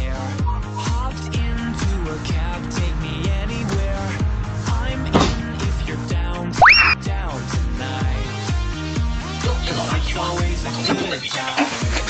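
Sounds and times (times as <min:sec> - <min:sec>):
pop music: 0:00.0 - 0:12.0.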